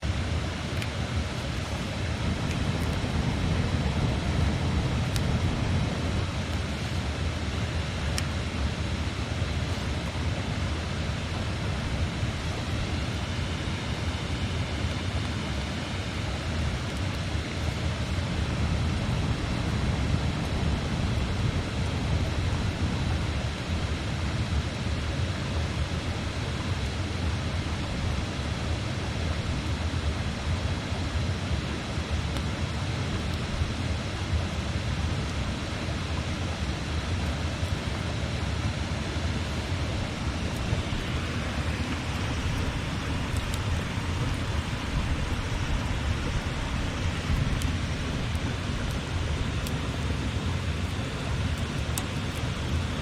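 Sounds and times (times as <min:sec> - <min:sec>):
campfire crackling: 0:00.0 - 0:53.0
river rushing: 0:00.0 - 0:53.0.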